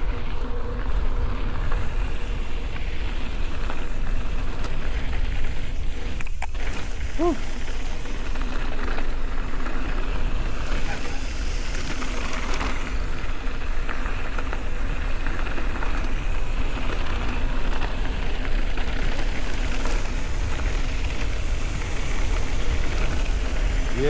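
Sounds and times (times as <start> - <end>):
tyres crackling over dirt: 0.0 - 24.0
wind buffeting microphone: 0.0 - 24.0.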